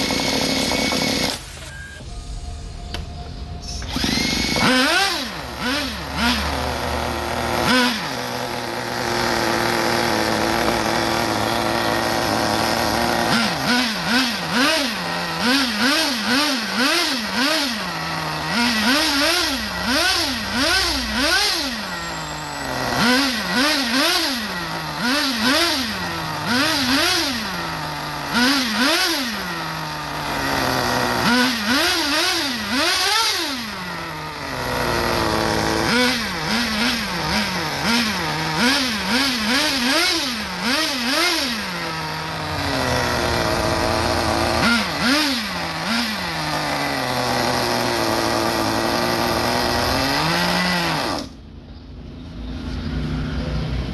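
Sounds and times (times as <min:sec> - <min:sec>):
small nitro engine revving: 0:00.0 - 0:02.4, 0:03.6 - 0:51.4.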